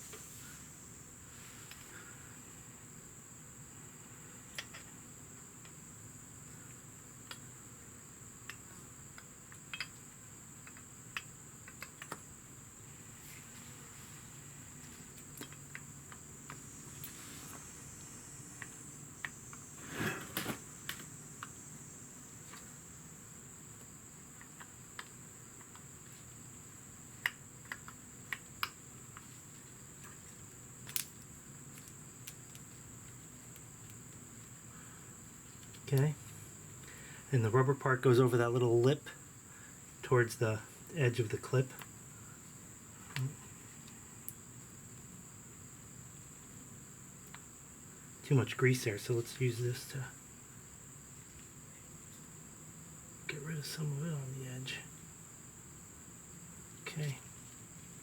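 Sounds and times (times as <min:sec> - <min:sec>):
rustle: 0:00.0 - 0:05.0, 0:08.5 - 0:58.0.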